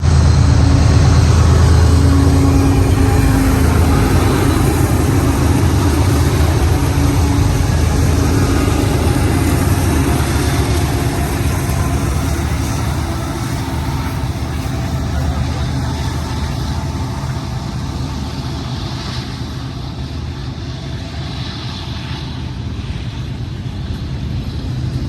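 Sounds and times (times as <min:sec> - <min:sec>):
diesel locomotive engines droning: 0:00.0 - 0:25.0.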